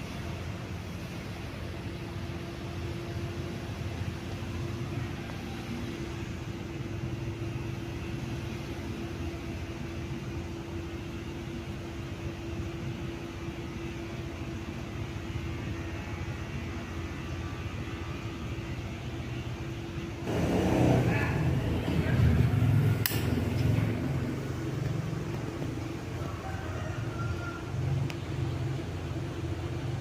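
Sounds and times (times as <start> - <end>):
ceiling fan humming: 0.0 - 30.0.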